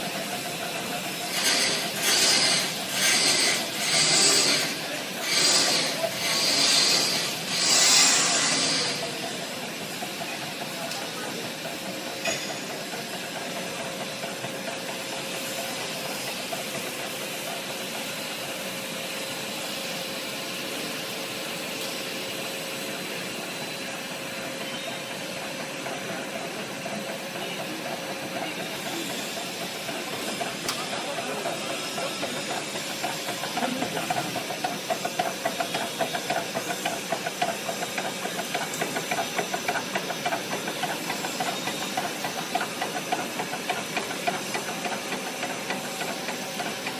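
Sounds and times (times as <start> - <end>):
machinery hissing: 0.0 - 46.9.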